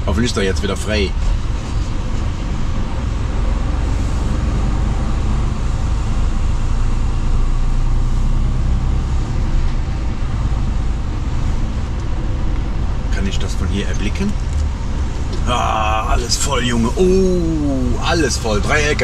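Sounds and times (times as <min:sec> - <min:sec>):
road noise: 0:00.0 - 0:19.0
truck engine rumble: 0:00.0 - 0:19.0.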